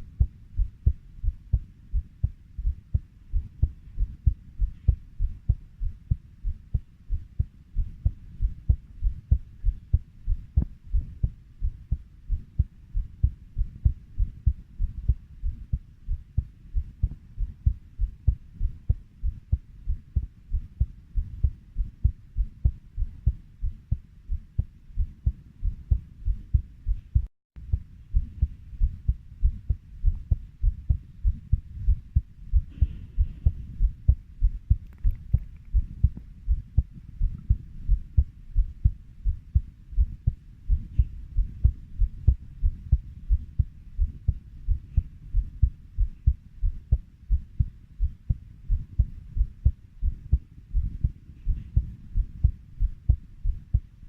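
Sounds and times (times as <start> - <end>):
heartbeat double thumps: 0.0 - 53.9.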